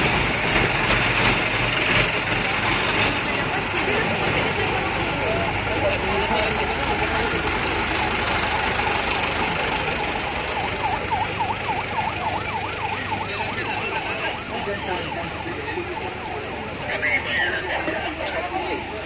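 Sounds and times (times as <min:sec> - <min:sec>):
background noise and voices: 0:00.0 - 0:19.0
emergency siren yelping: 0:03.0 - 0:19.0.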